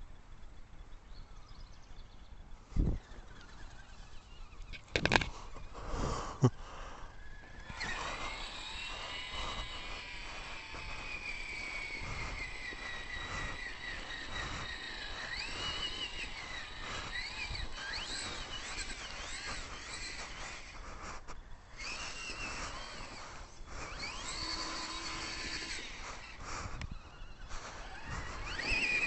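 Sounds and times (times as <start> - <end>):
electric motor whine: 1.9 - 29.0.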